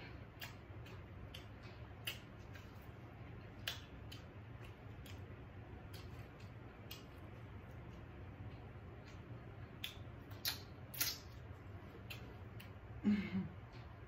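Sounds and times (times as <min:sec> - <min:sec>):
quiet chewing with mouth clicks: 0:00.0 - 0:13.0
faint low hum: 0:00.0 - 0:14.0.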